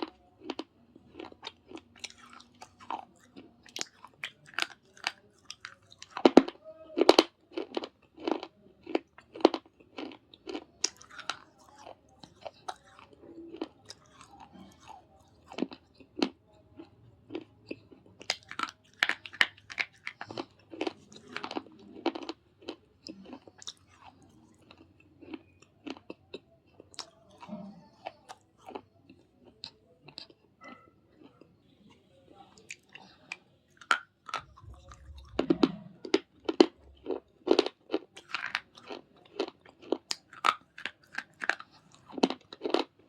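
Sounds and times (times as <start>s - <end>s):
person chewing brittle clay: 0.0s - 43.0s.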